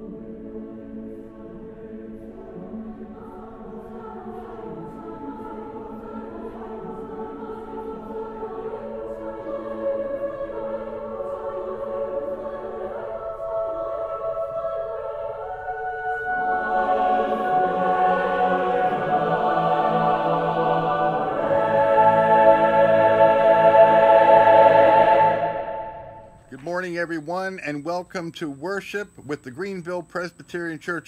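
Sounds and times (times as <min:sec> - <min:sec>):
mixed choir singing slow chords: 0:00.0 - 0:26.5.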